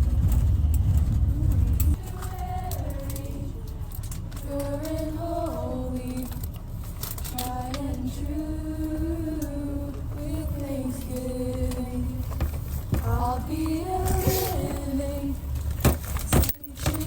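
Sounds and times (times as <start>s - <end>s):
bus rumble: 0.0s - 17.0s
girls singing a hymn: 1.9s - 17.0s.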